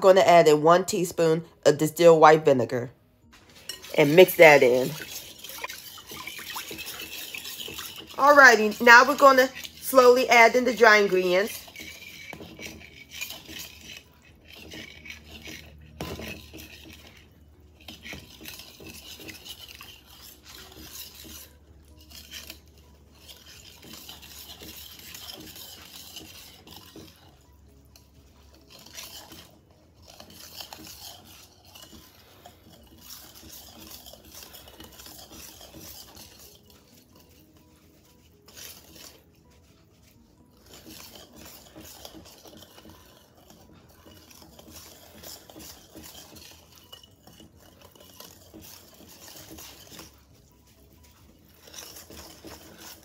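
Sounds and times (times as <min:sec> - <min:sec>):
whisk scraping glass bowl: 0:00.0 - 0:53.0.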